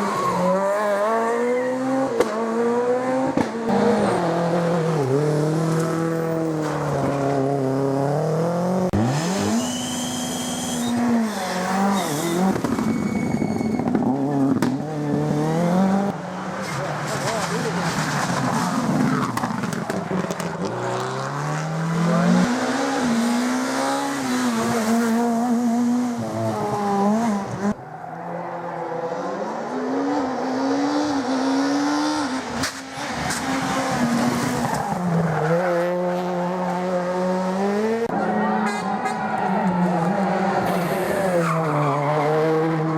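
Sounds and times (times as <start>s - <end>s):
rally car engine revving: 0.0s - 27.8s, 28.6s - 42.9s.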